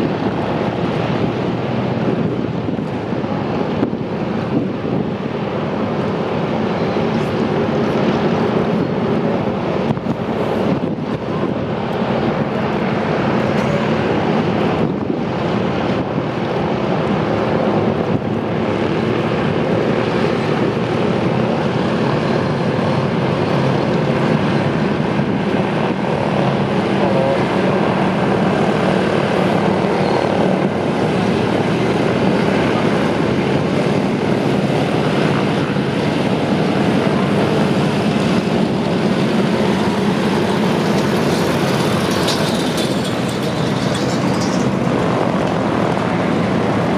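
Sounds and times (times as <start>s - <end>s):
radial piston aircraft engines running: 0.0s - 46.9s.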